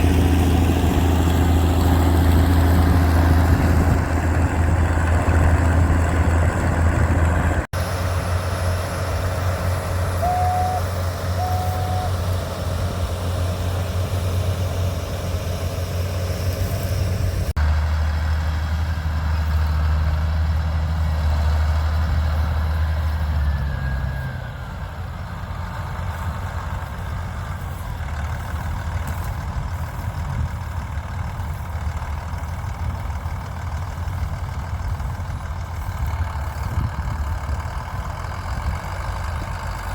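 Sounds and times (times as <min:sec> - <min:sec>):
tractor engine humming: 0:00.0 - 0:39.9.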